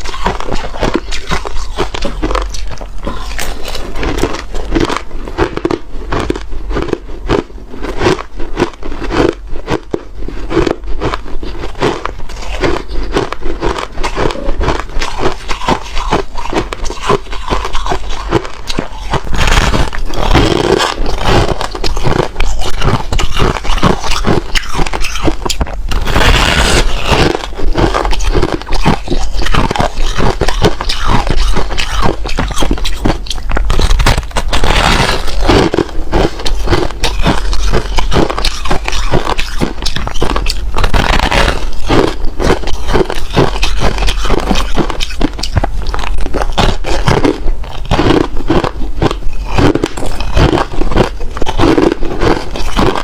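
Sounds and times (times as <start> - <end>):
ice crunching being chewed: 0.0 - 53.0.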